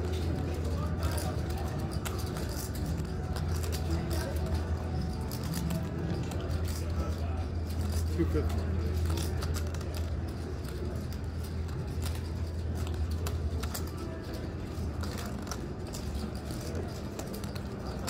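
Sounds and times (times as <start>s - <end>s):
poker chips clicking: 0.0s - 7.0s, 7.6s - 18.0s
low hum of room noise: 0.0s - 18.0s.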